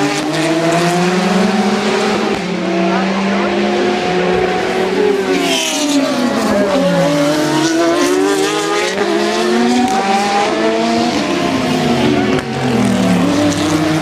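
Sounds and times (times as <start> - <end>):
race car engines at high revs: 0.0 - 14.0.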